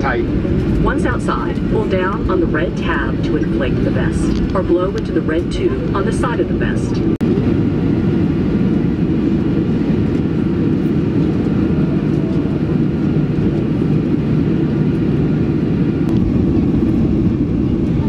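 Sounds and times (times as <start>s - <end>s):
jet engines low rumble: 0.0s - 18.0s.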